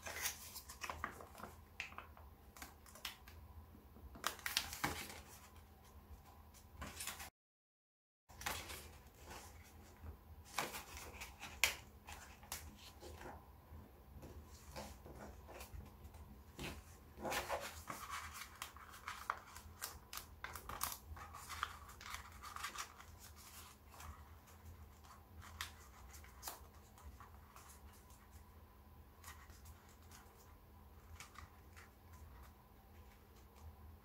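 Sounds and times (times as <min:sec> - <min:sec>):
paper folding crinkles: 0:00.0 - 0:03.4, 0:08.3 - 0:13.4, 0:14.4 - 0:33.7.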